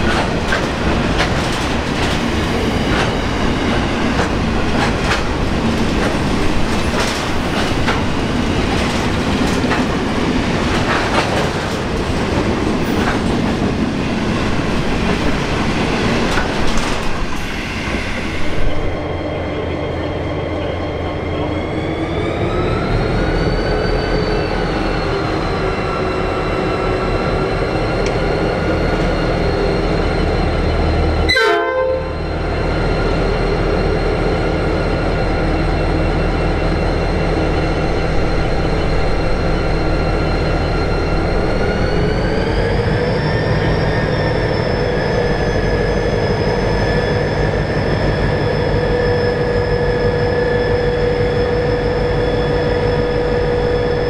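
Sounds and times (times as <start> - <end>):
diesel locomotive engine: 0.0 - 54.0
train wagons rumbling and clicking: 0.0 - 54.0.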